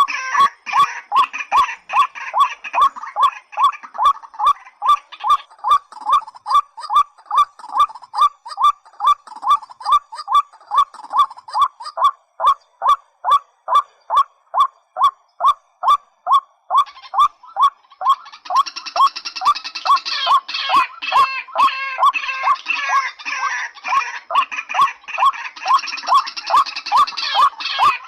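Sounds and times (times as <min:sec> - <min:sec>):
bird calling kwak notes: 0:00.0 - 0:28.0.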